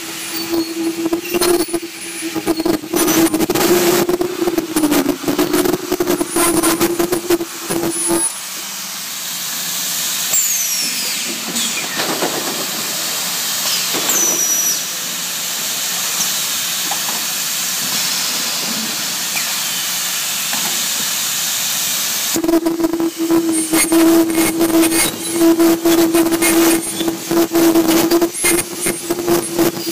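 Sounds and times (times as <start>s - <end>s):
low hum with rapid clicking: 0.0s - 9.1s, 10.1s - 29.9s
welding machine high hiss: 0.0s - 29.9s.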